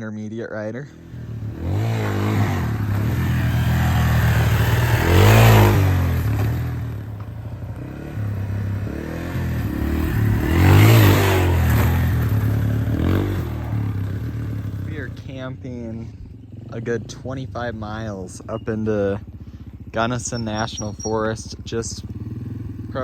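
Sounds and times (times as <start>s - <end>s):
dirt bike engine revving: 0.9s - 23.0s.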